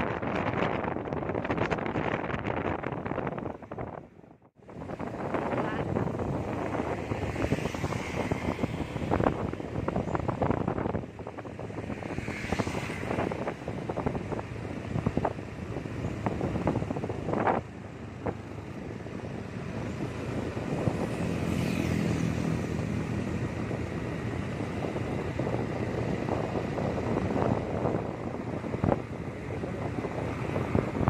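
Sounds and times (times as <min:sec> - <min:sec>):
engine hum: 0:00.0 - 0:31.0
road and traffic noise: 0:00.0 - 0:31.0
wind buffeting microphone: 0:00.0 - 0:31.0.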